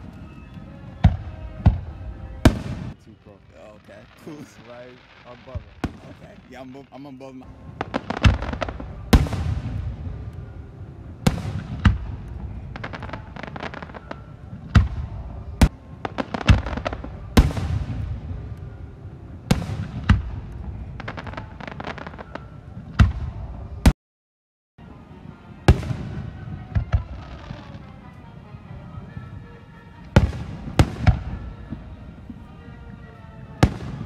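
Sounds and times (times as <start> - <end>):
fireworks booming: 0.0 - 23.9, 25.4 - 34.0
fireworks crackling: 0.0 - 23.9, 24.8 - 34.0.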